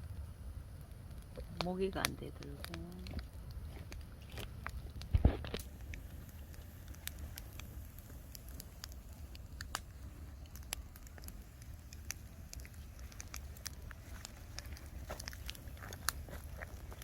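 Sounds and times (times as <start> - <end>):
bonfire crackling: 0.0 - 17.0
sharp pops of fire: 0.0 - 17.0.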